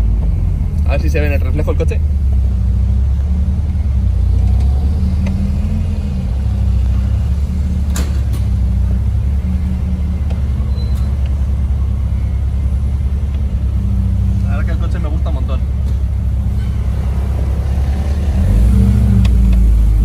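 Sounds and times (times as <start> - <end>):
car engine running low: 0.0 - 20.0.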